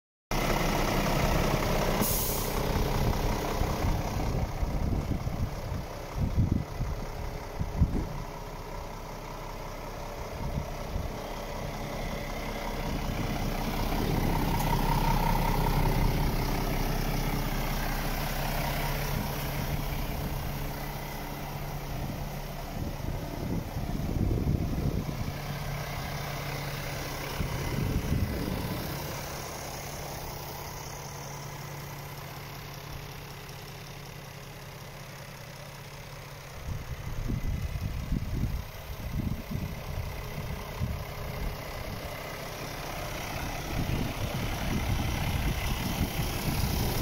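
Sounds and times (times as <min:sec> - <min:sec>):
diesel truck idling: 0:00.3 - 0:47.0.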